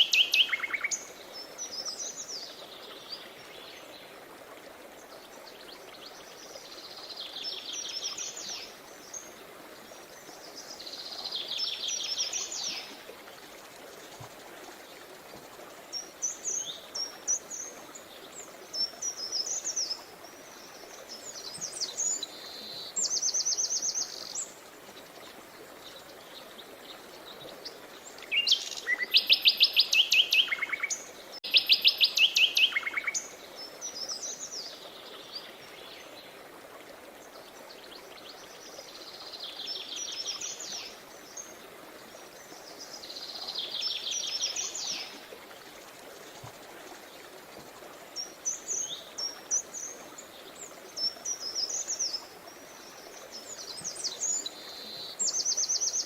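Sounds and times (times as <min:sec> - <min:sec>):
river water flowing: 0:00.0 - 0:56.0
songbirds trilling and chirping: 0:05.0 - 0:56.0.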